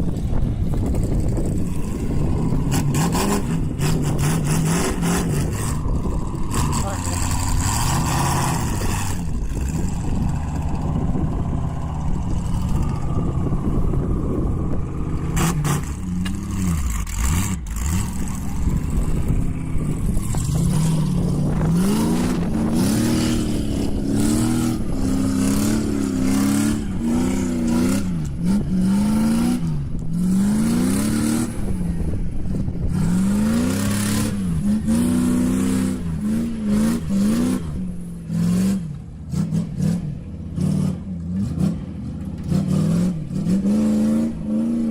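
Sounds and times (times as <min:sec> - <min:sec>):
vehicle engine revving: 0:00.0 - 0:44.9.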